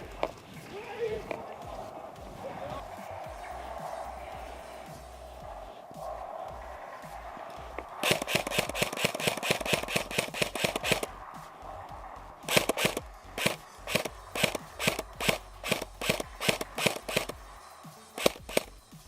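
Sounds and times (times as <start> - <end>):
electronic music with punchy beat: 0.0 - 19.0.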